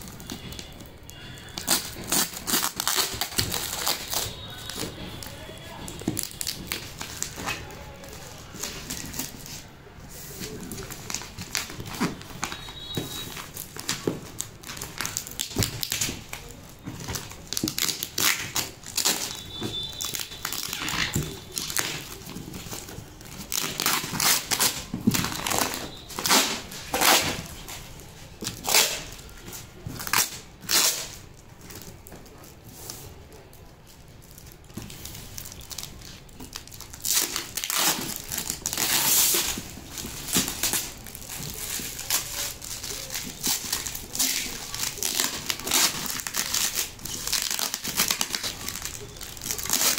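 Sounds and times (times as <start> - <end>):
packing tape ripping: 1.4 - 9.6, 10.3 - 32.4, 34.4 - 49.9.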